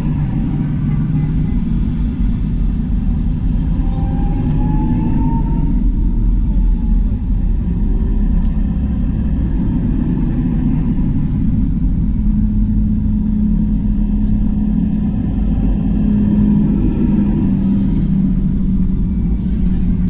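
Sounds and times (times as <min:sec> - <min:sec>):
engine humming: 0:00.0 - 0:20.0
tractor engines rumbling: 0:00.0 - 0:20.0.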